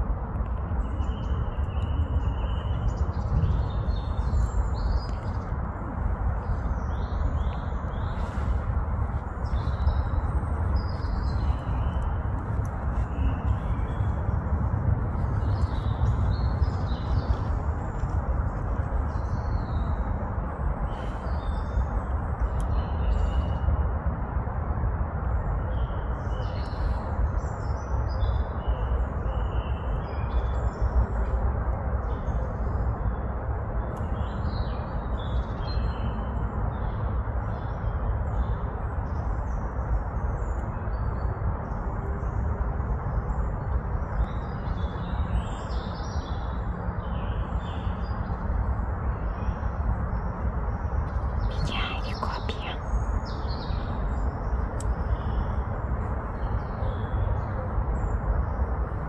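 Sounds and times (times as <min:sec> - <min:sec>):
low rumble and hiss: 0:00.0 - 0:59.0.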